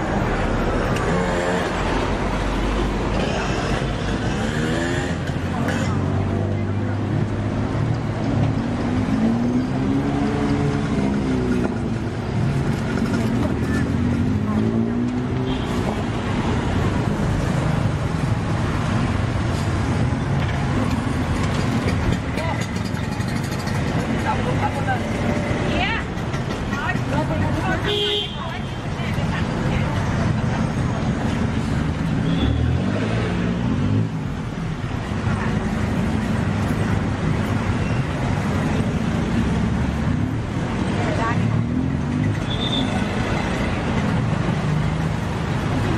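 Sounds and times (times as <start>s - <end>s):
street traffic din: 0.0s - 45.9s.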